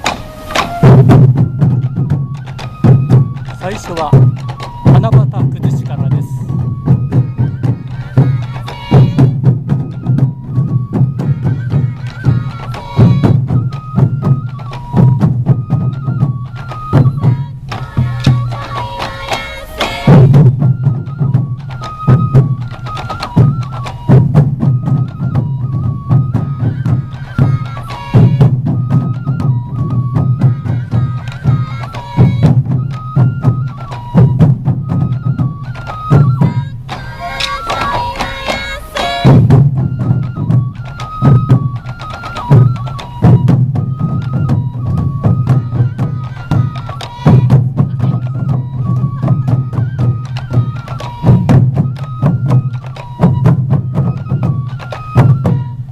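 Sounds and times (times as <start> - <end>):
bamboo flute melody: 0.0 - 55.9
taiko drums beating: 0.0 - 55.9.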